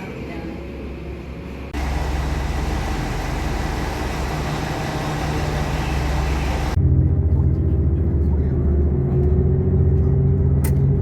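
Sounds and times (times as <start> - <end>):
train rumbling and rushing: 0.0 - 11.0.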